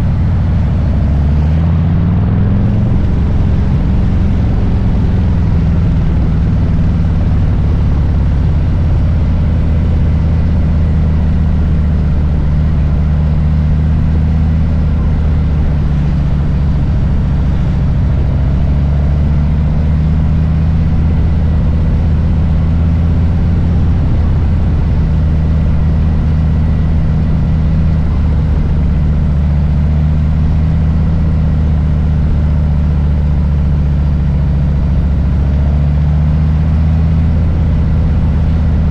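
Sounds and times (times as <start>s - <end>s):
motorcycle engine rumbling at low revs: 0.0s - 38.9s.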